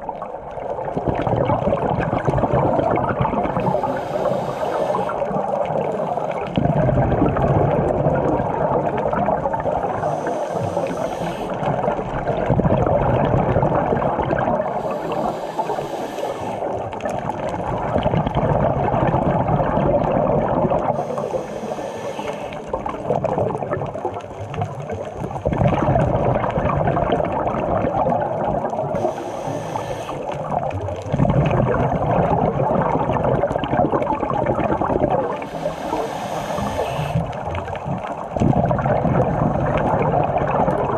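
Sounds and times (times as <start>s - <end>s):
exhaled bubbles gurgling: 0.0s - 40.9s
regulator air rushing underwater: 0.0s - 40.9s.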